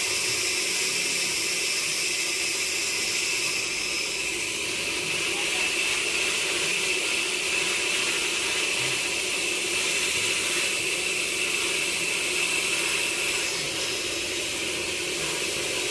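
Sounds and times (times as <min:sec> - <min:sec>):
sawmill machinery whining: 0:00.0 - 0:15.9.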